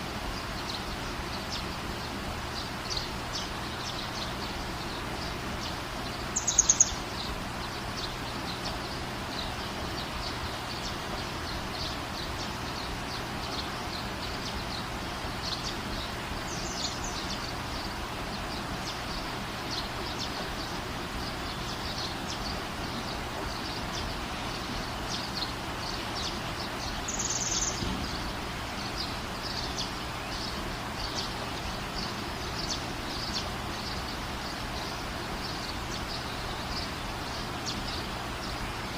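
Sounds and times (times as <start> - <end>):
small birds chirping: 0.0 - 38.9
steady rain hiss: 0.0 - 38.9
high bird calls: 0.3 - 38.9.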